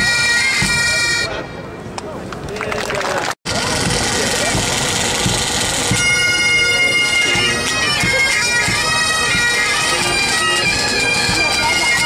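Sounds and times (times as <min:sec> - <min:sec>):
bagpipes playing a tune: 0:00.0 - 0:01.5, 0:03.5 - 0:12.0.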